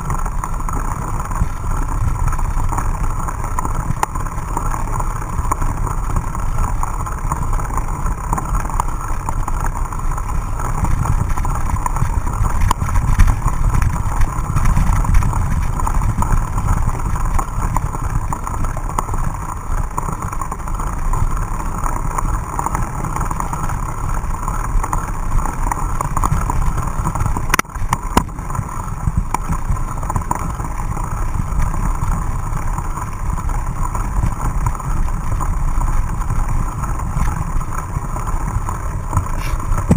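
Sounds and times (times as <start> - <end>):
mountain bike rumble and rattle: 0.0 - 39.9.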